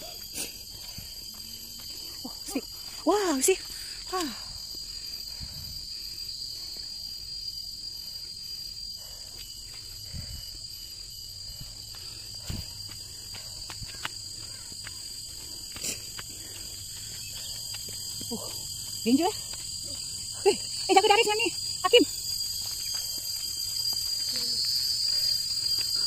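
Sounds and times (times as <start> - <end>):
footsteps on gravel path: 0.0 - 4.8, 9.4 - 26.0
forest insects chorus: 0.0 - 26.0.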